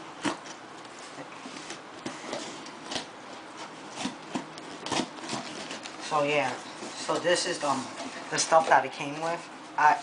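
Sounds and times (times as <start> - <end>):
cardboard and tape rustling: 0.0 - 10.0.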